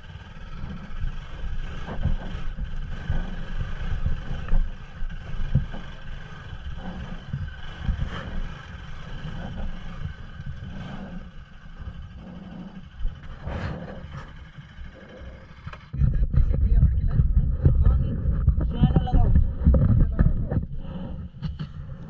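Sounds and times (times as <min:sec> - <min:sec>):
suspension knocks and thumps: 0:00.0 - 0:14.7, 0:15.7 - 0:22.0
motorcycle engine rumbling: 0:00.0 - 0:22.0.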